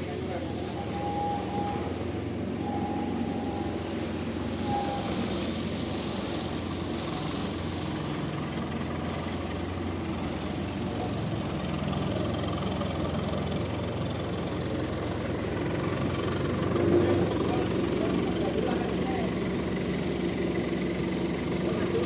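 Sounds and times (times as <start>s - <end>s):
heavy engine humming: 0.0s - 22.0s.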